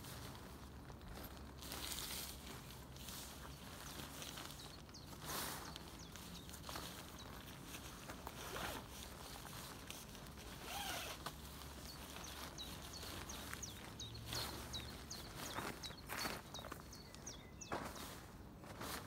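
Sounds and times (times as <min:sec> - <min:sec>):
tent fabric rustling: 0:00.0 - 0:16.5.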